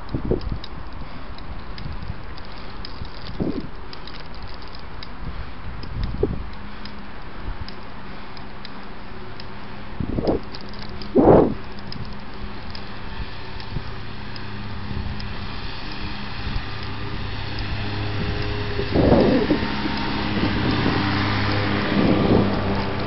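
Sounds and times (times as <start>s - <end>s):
wind buffeting microphone: 0.0s - 8.3s, 9.5s - 23.0s
steady low hum: 0.0s - 23.0s.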